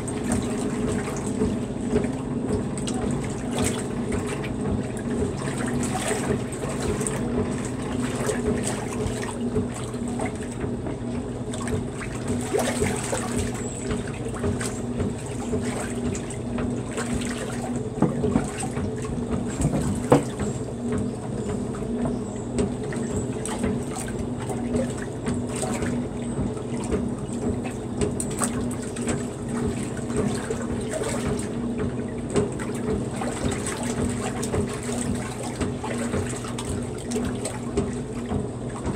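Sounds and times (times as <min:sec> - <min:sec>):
steady mechanical hum: 0:00.0 - 0:38.9
water sloshing in washer tub: 0:00.0 - 0:38.9.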